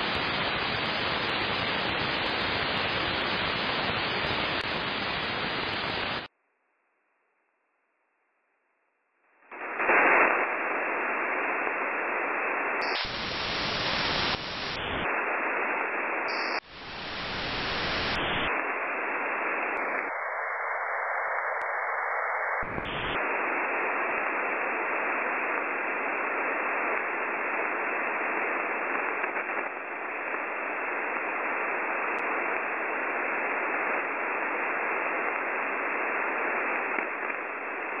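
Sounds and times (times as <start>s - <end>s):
shortwave radio static hiss: 0.0s - 6.3s, 9.4s - 38.0s.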